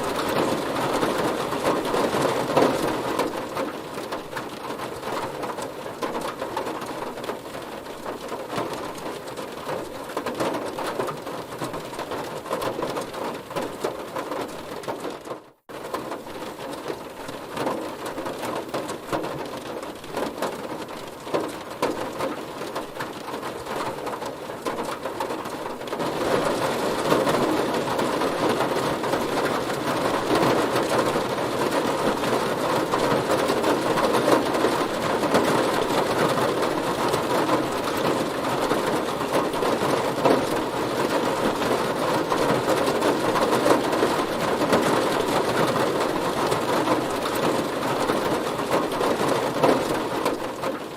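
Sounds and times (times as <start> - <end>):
heavy rain on a car: 0.0 - 50.9.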